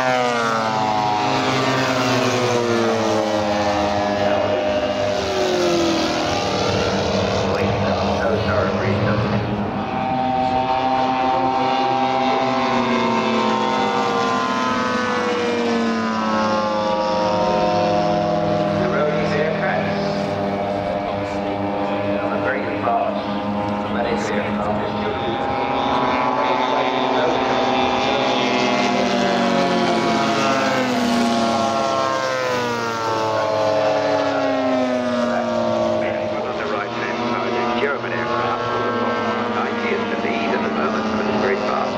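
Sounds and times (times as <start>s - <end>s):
model aircraft propeller engines: 0.0s - 41.9s.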